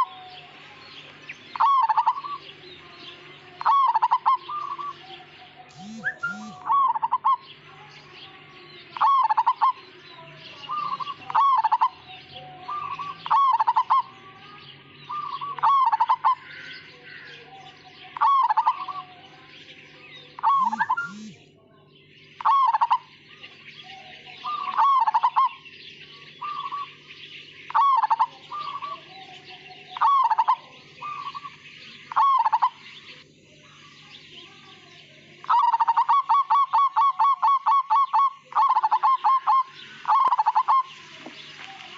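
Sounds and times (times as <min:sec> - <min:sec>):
dove cooing: 0:00.0 - 0:07.7, 0:08.4 - 0:14.4, 0:15.0 - 0:19.3, 0:20.3 - 0:21.4, 0:22.4 - 0:23.2, 0:23.8 - 0:25.7, 0:26.4 - 0:33.2, 0:35.3 - 0:41.9.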